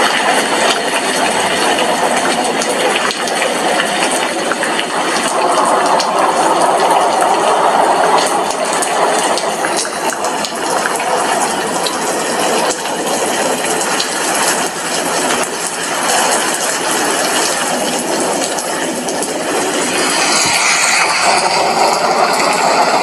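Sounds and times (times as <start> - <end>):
rain on a glass window: 0.0 - 23.0.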